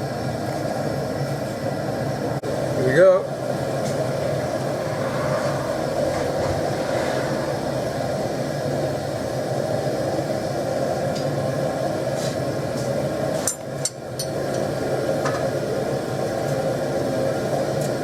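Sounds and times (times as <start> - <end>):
gas forge burner running: 0.0 - 18.0.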